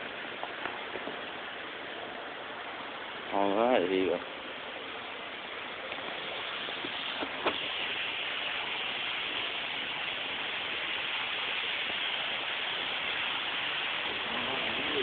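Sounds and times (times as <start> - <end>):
fountain splashing: 0.0 - 15.0.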